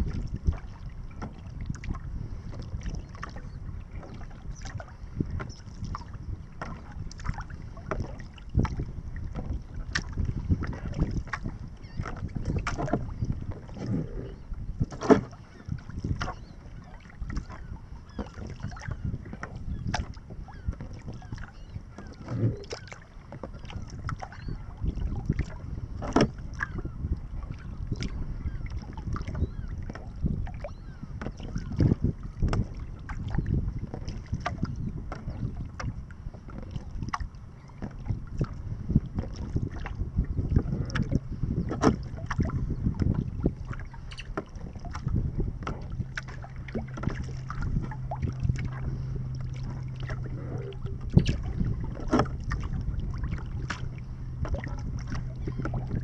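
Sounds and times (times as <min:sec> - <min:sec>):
paddle splashes and drips: 0:00.0 - 0:56.0
water slapping hull: 0:00.0 - 0:56.0
wind rumble on microphone: 0:00.0 - 0:56.0.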